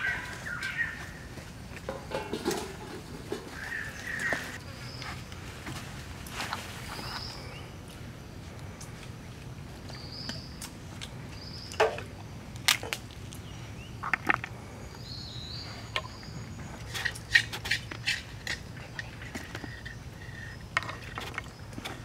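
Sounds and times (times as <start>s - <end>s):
forest background: 0.0s - 22.0s.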